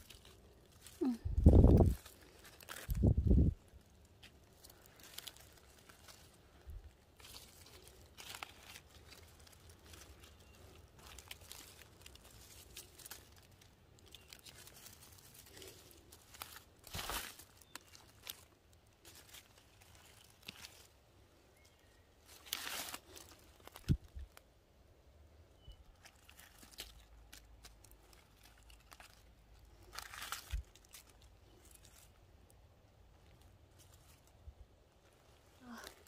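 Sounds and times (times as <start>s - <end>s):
dry leaves rustling and crackling: 0.0s - 24.5s, 25.6s - 36.0s.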